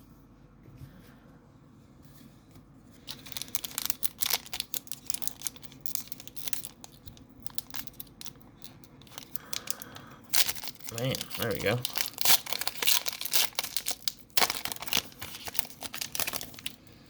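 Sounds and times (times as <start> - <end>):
foil wrapper tearing and crinkling: 3.0 - 16.9.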